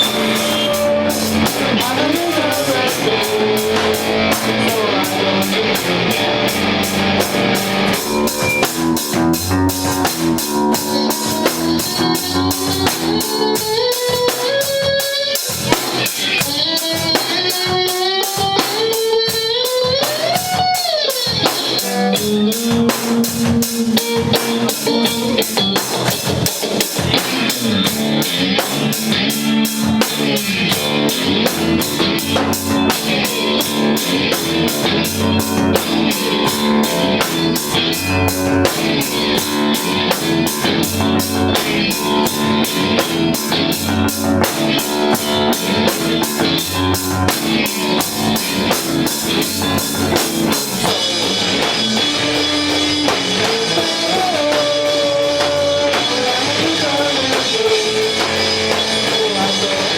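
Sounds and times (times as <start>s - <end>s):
bass: 0.0s - 59.9s
drum kit beat: 0.0s - 59.9s
electric guitar sliding and bending: 0.0s - 59.9s.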